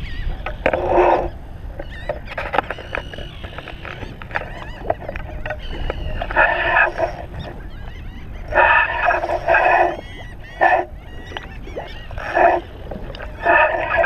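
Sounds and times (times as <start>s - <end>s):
animal warbling calls: 0.0s - 14.0s
harsh animal call: 0.5s - 14.0s.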